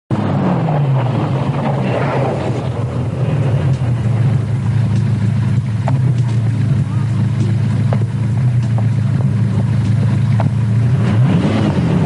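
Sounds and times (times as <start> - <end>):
car engine running at low revs: 0.1 - 12.0.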